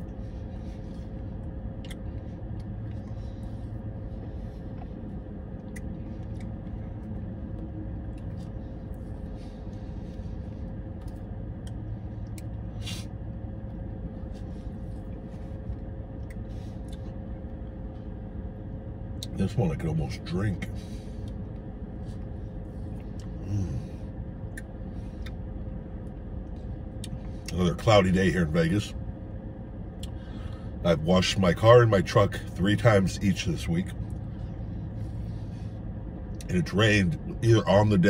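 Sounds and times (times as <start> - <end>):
car engine hum inside cabin: 0.0 - 38.0.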